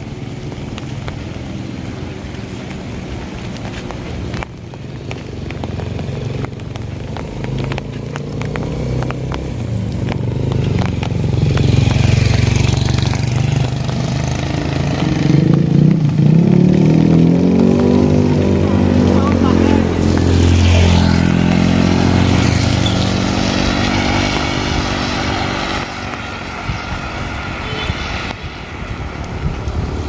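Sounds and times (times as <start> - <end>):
vehicle engine approaching: 0.0 - 30.0.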